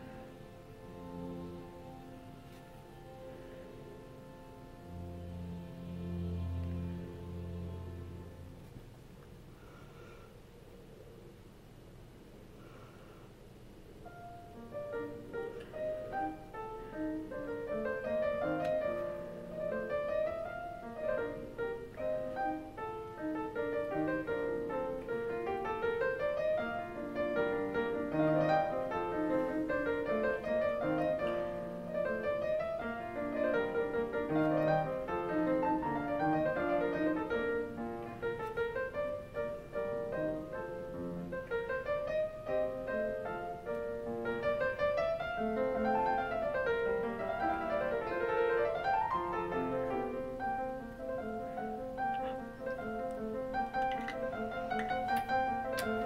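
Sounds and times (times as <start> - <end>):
piano music: 0.0 - 9.1, 14.0 - 56.0.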